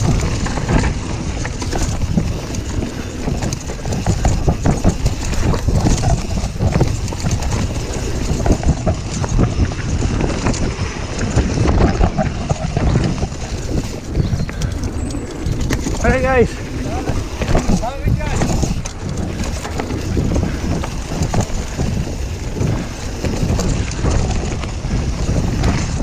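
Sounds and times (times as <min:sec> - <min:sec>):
bike knocking and rattling: 0:00.0 - 0:26.0
tyres rumbling on dirt: 0:00.0 - 0:26.0.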